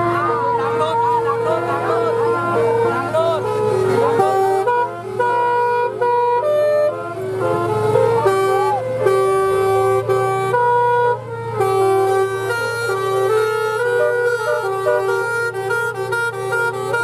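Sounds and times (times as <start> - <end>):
bus musical air horn: 0.0 - 17.0.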